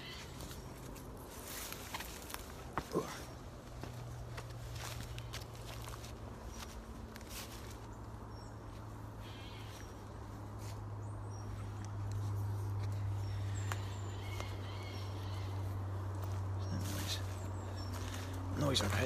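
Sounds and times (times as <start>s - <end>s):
footsteps through undergrowth: 0.0s - 19.0s.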